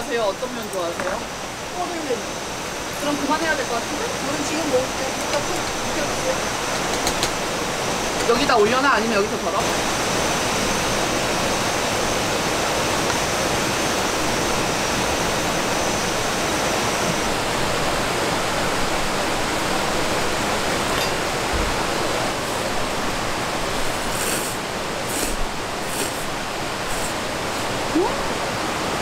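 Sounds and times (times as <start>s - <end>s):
heavy rain: 0.0s - 29.0s
stream rushing over rocks: 0.0s - 29.0s.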